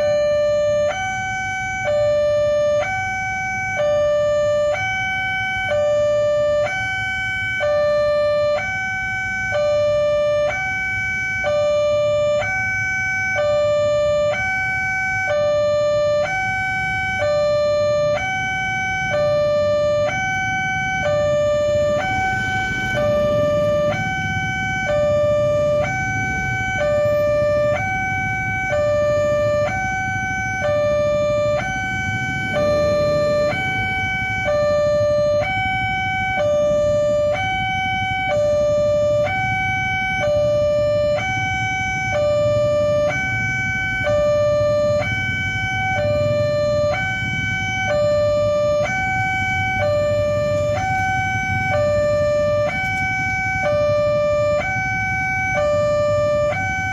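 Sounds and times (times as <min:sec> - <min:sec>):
two-tone crossing siren wailing: 0:00.0 - 0:56.9.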